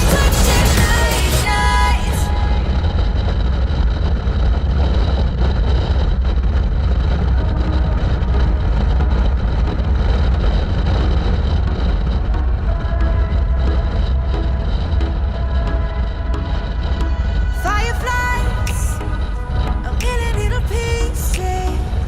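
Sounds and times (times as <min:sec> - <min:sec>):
motorcycle engine rumble: 0:00.0 - 0:22.0
road noise: 0:00.0 - 0:22.0.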